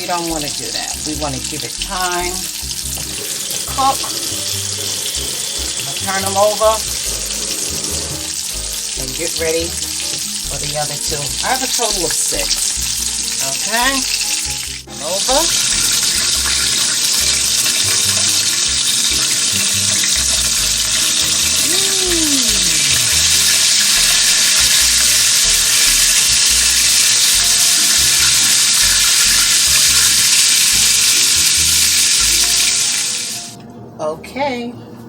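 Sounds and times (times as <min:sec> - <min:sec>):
food sizzling in frying oil: 0:00.0 - 0:33.6.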